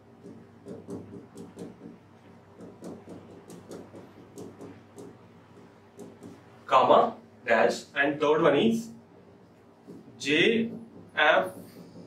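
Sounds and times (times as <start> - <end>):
marker writing on a whiteboard: 0.0 - 12.0.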